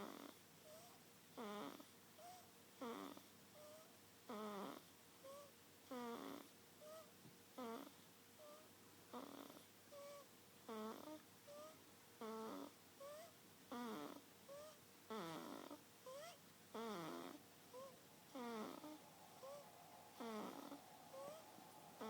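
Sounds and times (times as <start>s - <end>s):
rhythmic snoring: 0.0s - 1.9s, 2.8s - 3.3s, 4.3s - 7.9s, 9.1s - 22.0s.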